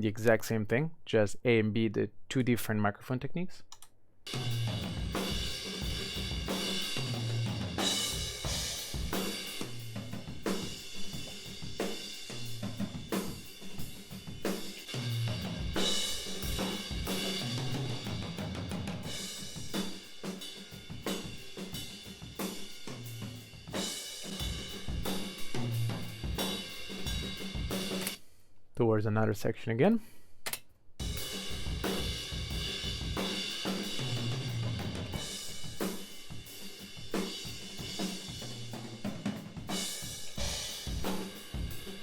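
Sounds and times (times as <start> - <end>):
hi-hat and cymbal wash: 4.3 - 28.2, 31.0 - 42.0.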